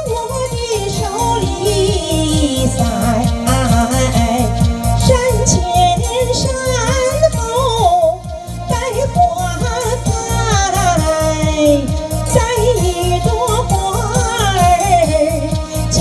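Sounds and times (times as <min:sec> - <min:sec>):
backing track with steady beat: 0:00.0 - 0:16.0
woman singing into a microphone: 0:00.0 - 0:16.0.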